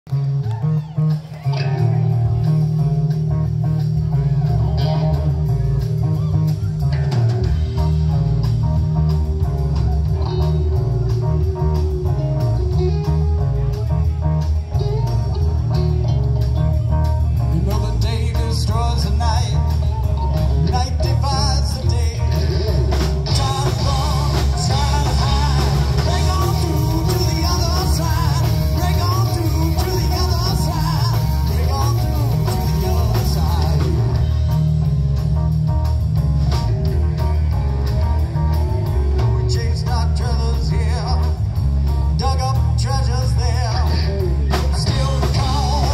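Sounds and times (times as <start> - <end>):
live blues rock band: 0.1 - 45.9.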